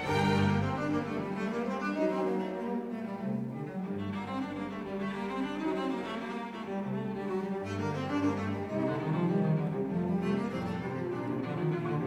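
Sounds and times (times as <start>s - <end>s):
cello holding long notes: 0.0s - 12.0s.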